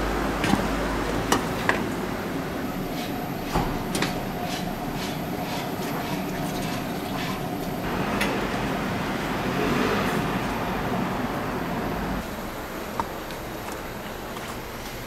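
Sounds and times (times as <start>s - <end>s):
kitchen background roar: 0.0s - 15.0s.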